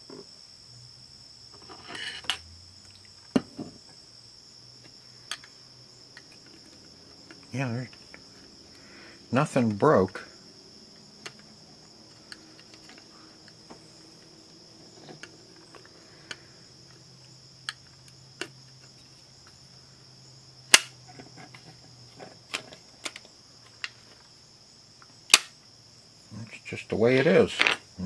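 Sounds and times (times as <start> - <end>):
high-pitched hiss: 0.0 - 28.0.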